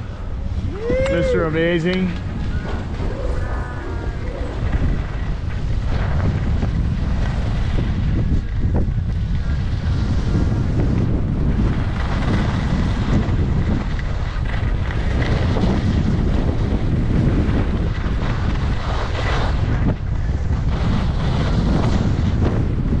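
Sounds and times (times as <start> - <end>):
wind buffeting microphone: 0.0 - 23.0
skis carving on snow: 0.5 - 23.0.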